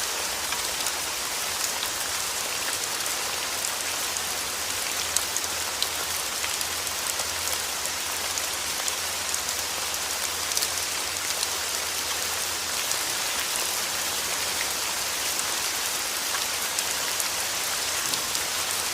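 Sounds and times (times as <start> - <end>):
steady rain hiss: 0.0 - 18.9.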